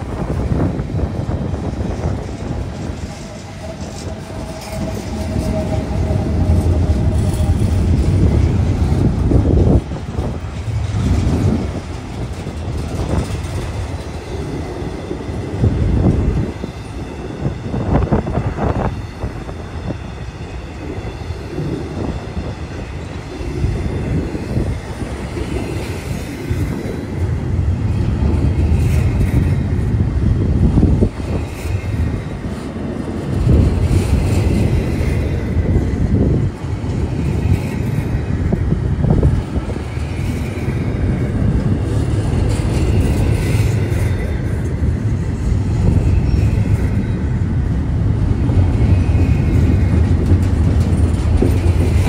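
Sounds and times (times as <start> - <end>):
diesel locomotives rumbling: 0.0 - 52.0
freight cars rumbling: 0.0 - 52.0.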